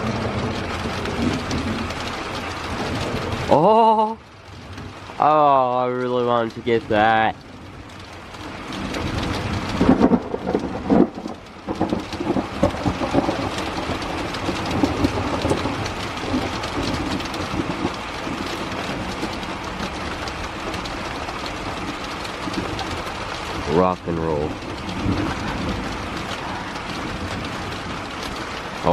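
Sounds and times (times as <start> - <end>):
thunder cracks and rumble: 0.0 - 3.6, 8.6 - 28.9
steady rain: 0.0 - 28.9.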